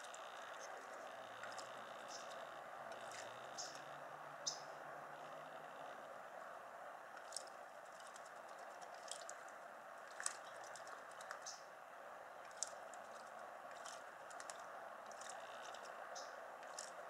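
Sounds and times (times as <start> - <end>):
faint water splashes: 0.0 - 5.9, 7.0 - 17.0
steady background hiss: 0.0 - 17.0.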